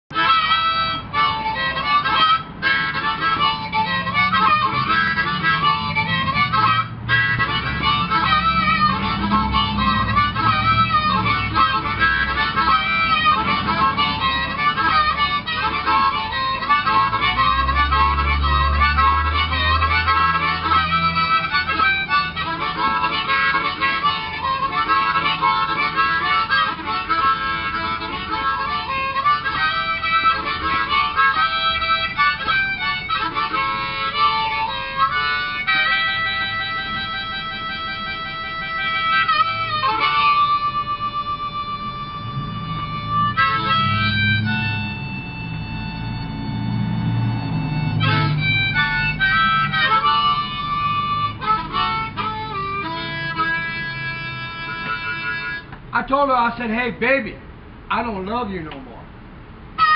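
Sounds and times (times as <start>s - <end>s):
blues harmonica playing: 0.1s - 56.7s, 59.6s - 59.9s.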